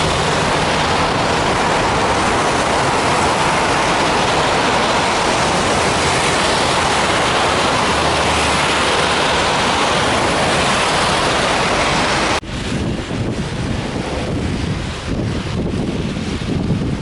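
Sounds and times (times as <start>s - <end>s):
strong wind rushing: 0.0s - 17.0s.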